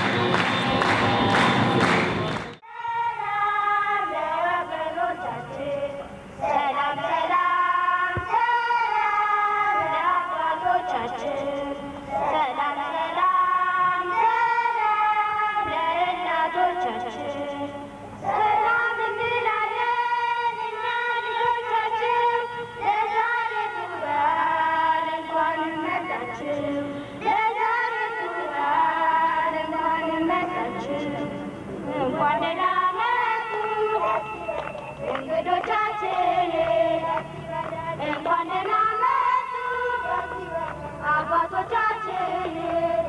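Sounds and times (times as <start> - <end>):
high voices singing: 0.0 - 43.0.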